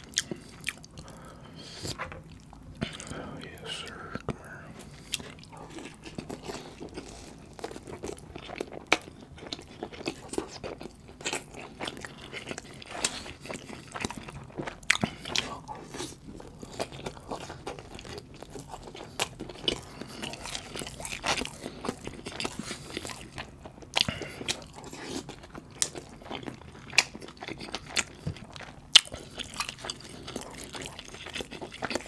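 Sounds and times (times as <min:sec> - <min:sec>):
chewing and wet mouth sounds: 0:00.0 - 0:32.0.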